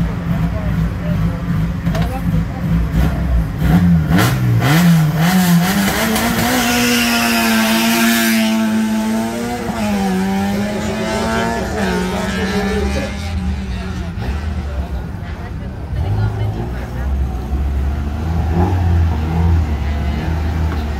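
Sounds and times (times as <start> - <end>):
car engine revving and accelerating: 0.0 - 20.9.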